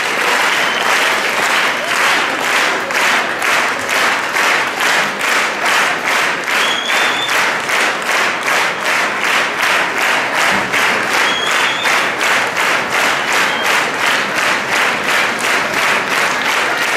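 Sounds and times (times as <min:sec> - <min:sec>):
crowd clapping in rhythm: 0:00.0 - 0:16.9.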